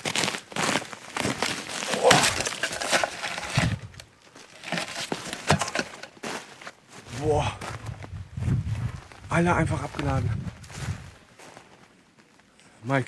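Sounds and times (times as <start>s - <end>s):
footsteps crunching in snow: 0.0s - 12.3s.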